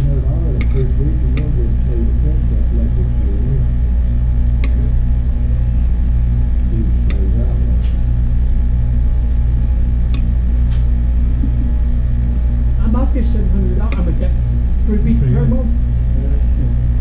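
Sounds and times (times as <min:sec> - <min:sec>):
room machinery humming: 0:00.0 - 0:17.0.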